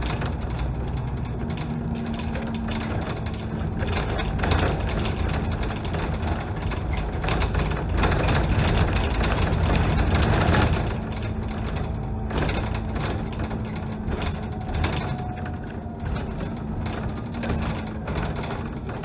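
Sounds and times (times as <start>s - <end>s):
bodywork and windows rattling: 0.0s - 19.0s
bus engine running: 0.0s - 19.0s.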